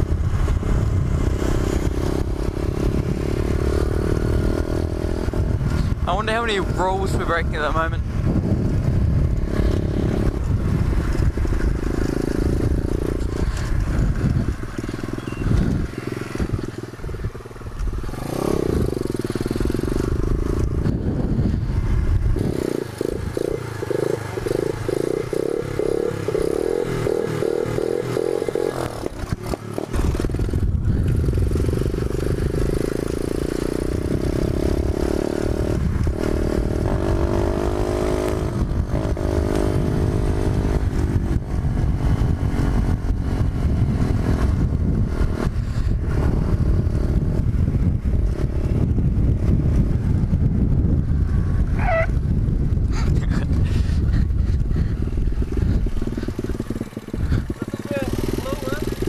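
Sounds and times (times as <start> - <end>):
pit bike engine revving: 0.0 - 59.0
wind rumble on microphone: 0.0 - 59.0.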